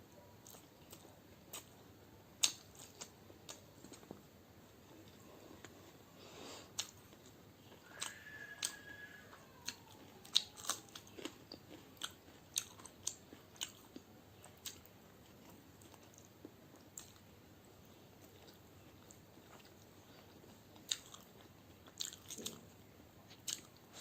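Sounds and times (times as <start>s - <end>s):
chewing with crunches: 0.1s - 24.0s.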